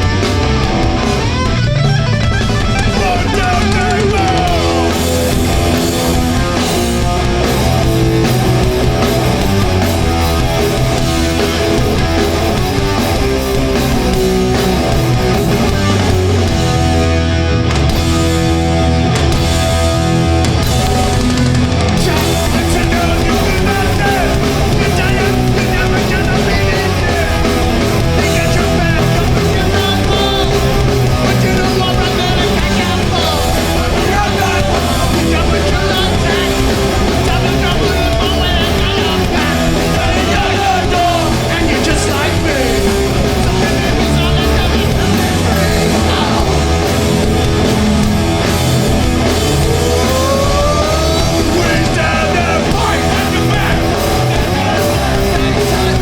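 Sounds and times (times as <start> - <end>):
live hardcore punk band: 0.0 - 56.0.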